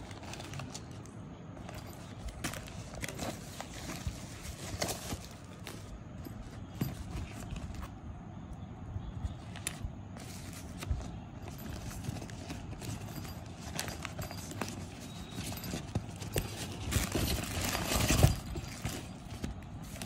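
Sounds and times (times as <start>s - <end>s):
rustling of bags and pouch: 0.0s - 8.2s, 9.0s - 20.0s.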